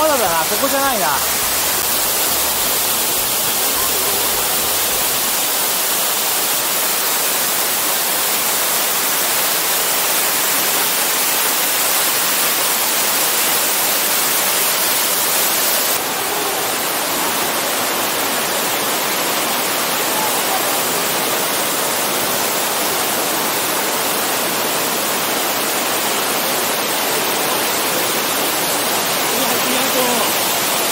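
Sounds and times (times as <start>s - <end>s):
mountain stream rushing: 0.0s - 30.9s
waterfall rushing: 0.0s - 30.9s.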